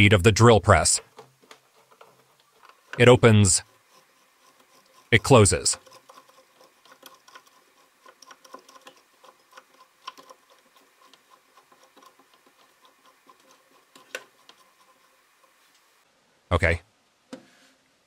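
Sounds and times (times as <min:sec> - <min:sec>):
pulleys and belt clicking: 0:00.9 - 0:15.6.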